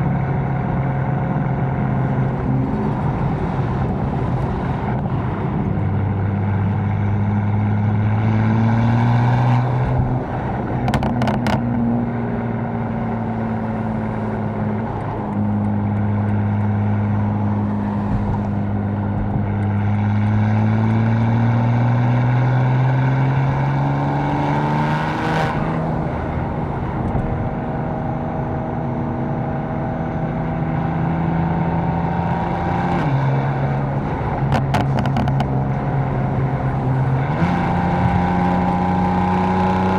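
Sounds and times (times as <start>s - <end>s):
car engine accelerating with upshifts: 0.0s - 39.9s.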